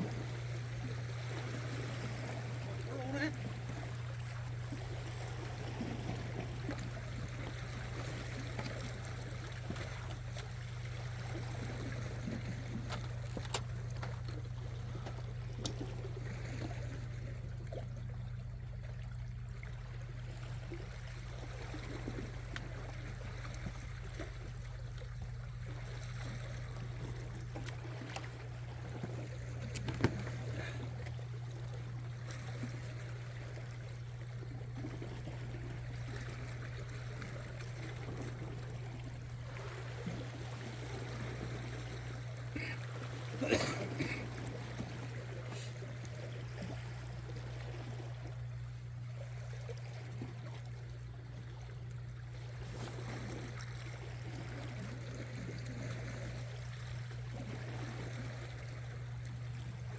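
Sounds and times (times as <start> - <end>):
steady low hum: 0.0 - 59.9
water lapping among rocks: 0.0 - 59.9.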